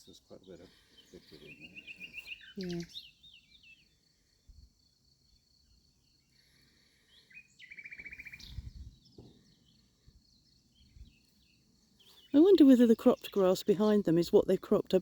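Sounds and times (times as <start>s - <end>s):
birds chirping and trilling: 0.0s - 4.1s, 6.0s - 15.0s.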